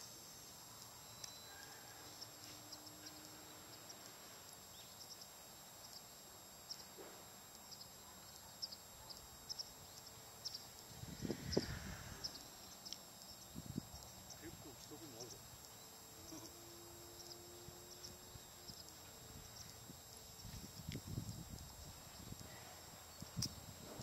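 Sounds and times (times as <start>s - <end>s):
thin steady high tone: 0.0s - 24.0s.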